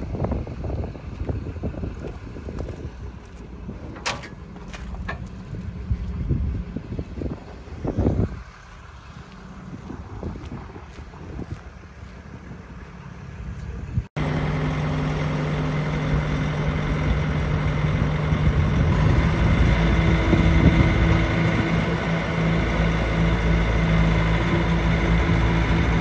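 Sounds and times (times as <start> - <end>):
wind noise: 0.0 - 14.1, 16.9 - 26.0
diesel engine idling: 0.0 - 26.0.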